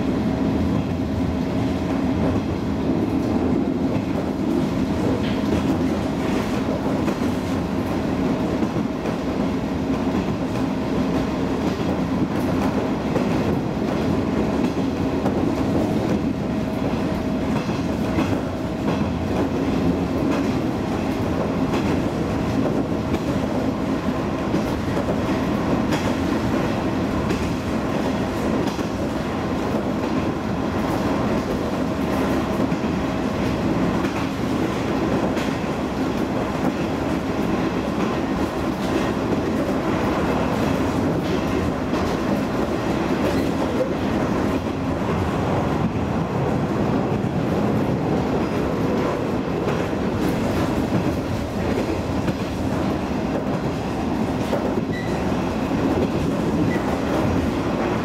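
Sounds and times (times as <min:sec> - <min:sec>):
railcar engine and wheels rumbling: 0:00.0 - 0:58.0
rail joint clicks: 0:00.1 - 0:58.0.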